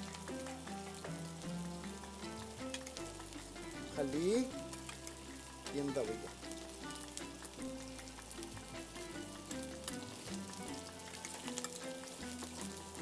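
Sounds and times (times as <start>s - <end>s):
oil sizzling in pan: 0.0s - 13.0s
soft background music: 0.0s - 13.0s.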